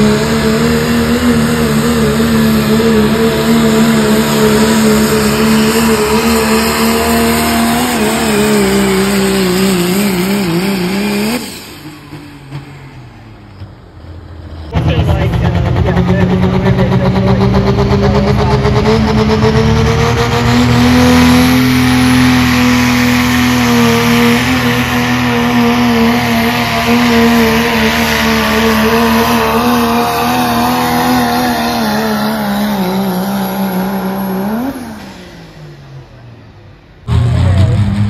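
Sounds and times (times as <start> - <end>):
diesel truck engine at full throttle: 0.0 - 38.0.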